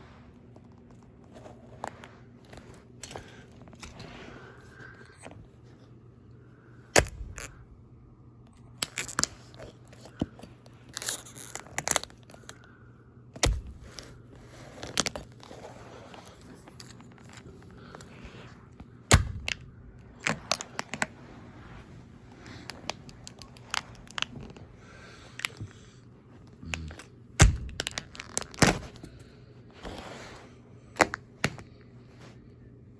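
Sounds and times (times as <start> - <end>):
quiet crinkling: 0.0 - 32.9.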